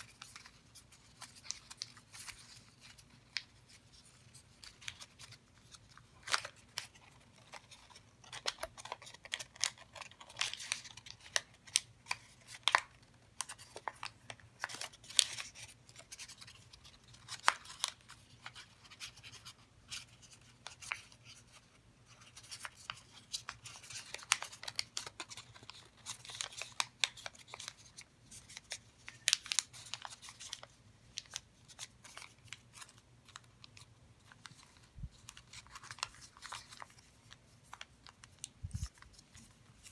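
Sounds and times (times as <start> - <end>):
paper being folded and creased: 0.0 - 39.9.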